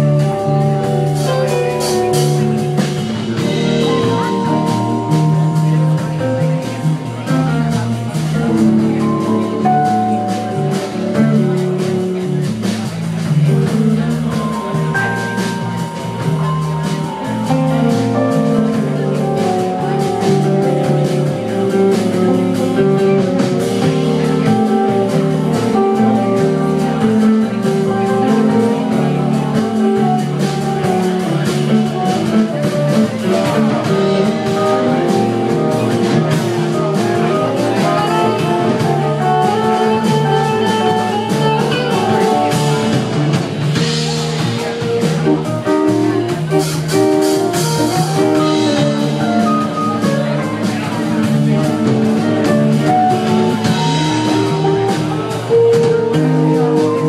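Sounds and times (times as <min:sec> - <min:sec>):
drum kit: 0:00.0 - 0:57.0
electric guitars: 0:00.0 - 0:57.0
live rock band jamming: 0:00.0 - 0:57.0.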